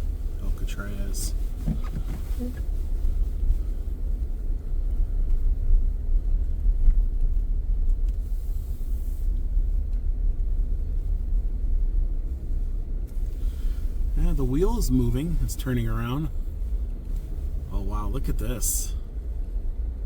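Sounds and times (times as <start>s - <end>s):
car interior driving rumble: 0.0s - 20.0s.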